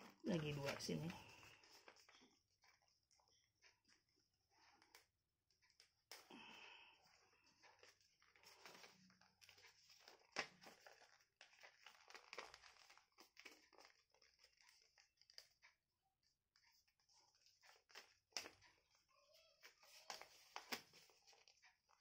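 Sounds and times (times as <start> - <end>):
paper being folded: 0.0 - 5.1, 7.1 - 19.0, 19.6 - 22.0.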